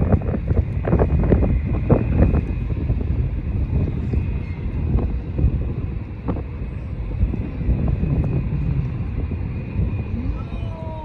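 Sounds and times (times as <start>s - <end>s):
jet engines rumbling with whine: 0.0s - 11.0s
wind buffeting microphone: 0.0s - 11.0s.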